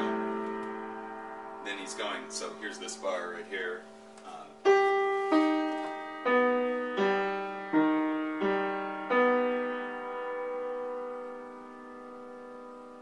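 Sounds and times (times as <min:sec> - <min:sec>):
piano notes and chords: 0:00.0 - 0:13.0.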